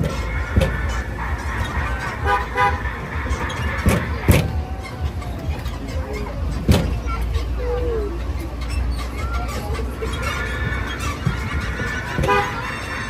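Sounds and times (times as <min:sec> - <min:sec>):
low rumble of moving tram: 0:00.0 - 0:13.0
tram horn toots: 0:00.0 - 0:13.0.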